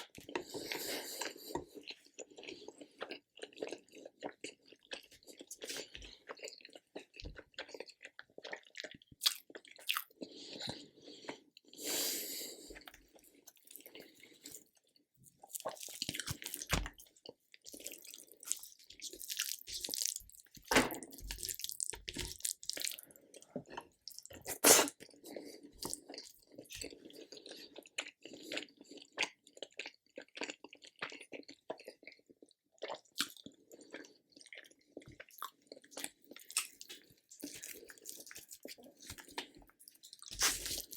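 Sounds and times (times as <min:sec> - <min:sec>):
person chewing: 0:00.0 - 0:40.9.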